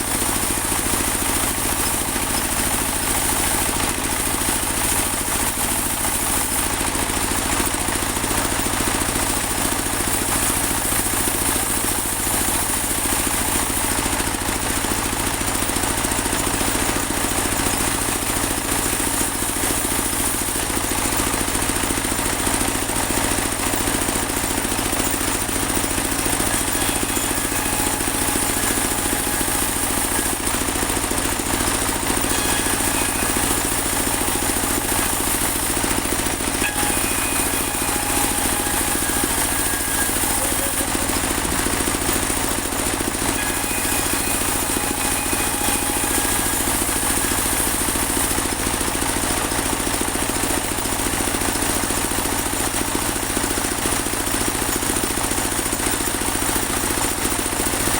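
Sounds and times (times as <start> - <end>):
band sawmill engine running: 0.0 - 57.9.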